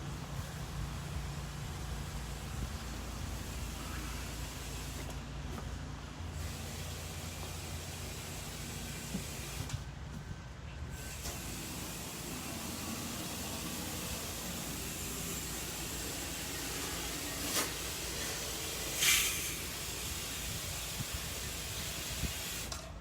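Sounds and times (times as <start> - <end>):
pressure washer spraying water: 0.4 - 5.2, 6.3 - 9.7, 11.0 - 22.7.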